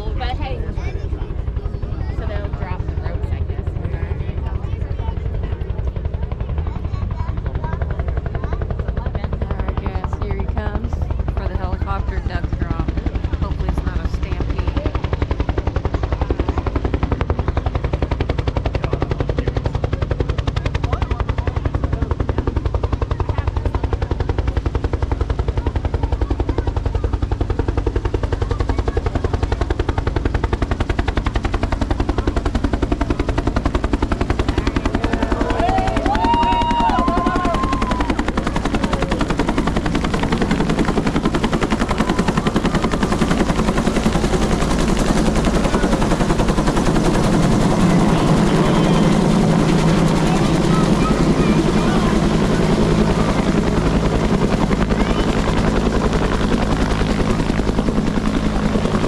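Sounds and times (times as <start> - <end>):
helicopter rotor blades thumping: 0.0 - 59.0.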